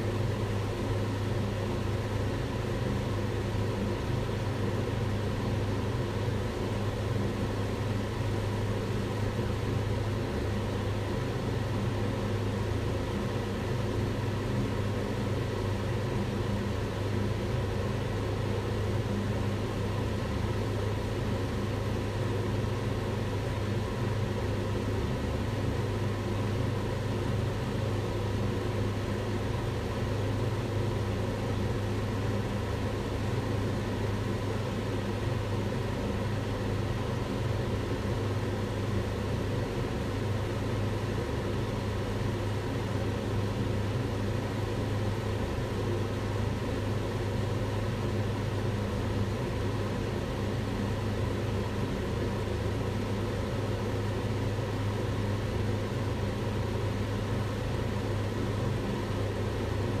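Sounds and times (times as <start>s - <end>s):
extractor fan running: 0.0s - 60.0s.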